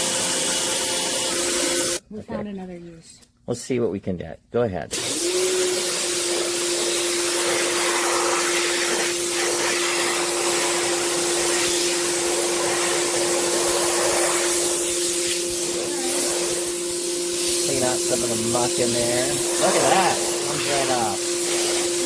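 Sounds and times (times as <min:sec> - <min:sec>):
pressure washer motor hum: 0:00.0 - 0:02.0, 0:05.0 - 0:22.0
water jet hissing: 0:00.0 - 0:02.0, 0:05.1 - 0:22.0.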